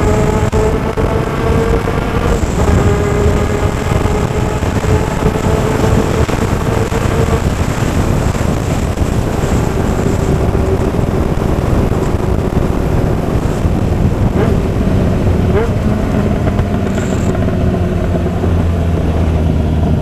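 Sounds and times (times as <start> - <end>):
loud rush of noise: 0.0 - 20.0
motorcycle engine cruising: 0.0 - 20.0.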